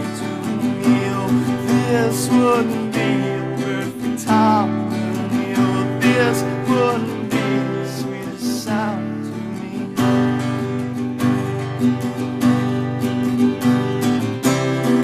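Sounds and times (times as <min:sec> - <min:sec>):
strummed acoustic guitar song: 0:00.0 - 0:15.0.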